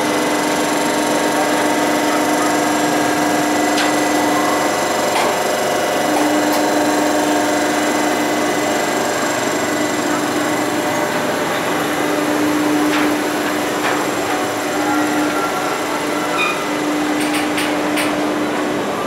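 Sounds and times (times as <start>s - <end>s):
machinery hum and whine: 0.0s - 19.0s.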